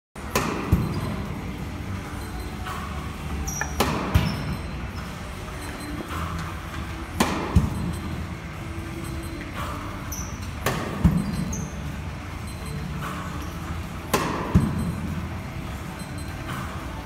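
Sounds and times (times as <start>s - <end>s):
steady hum: 0.2s - 17.0s.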